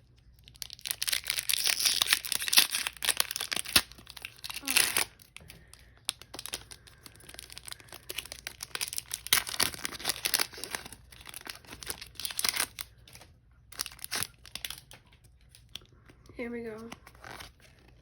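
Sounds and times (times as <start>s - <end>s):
foil wrapper crinkling and tearing: 0.1s - 15.9s, 16.8s - 18.0s.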